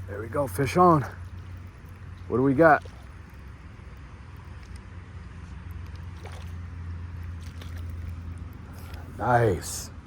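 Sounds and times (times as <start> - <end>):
steady low rumble: 0.0 - 10.0
water sloshing and splashing: 0.0 - 10.0.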